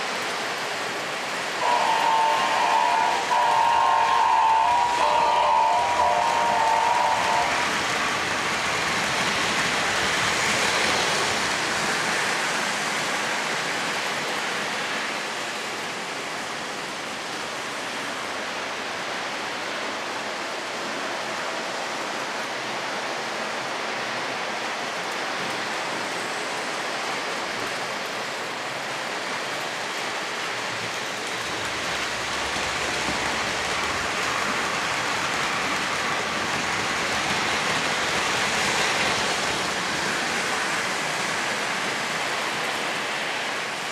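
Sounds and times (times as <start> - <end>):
model train wheels whirring on rails: 0.0 - 43.9.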